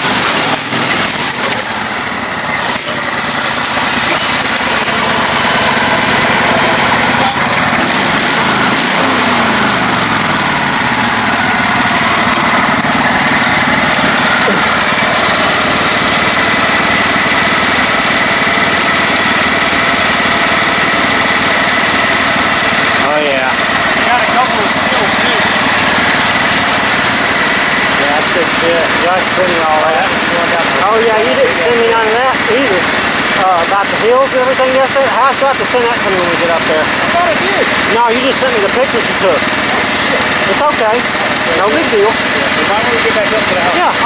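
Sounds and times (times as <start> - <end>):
high whine: 0.0 - 44.0
lawn mower engine revving: 0.0 - 44.0.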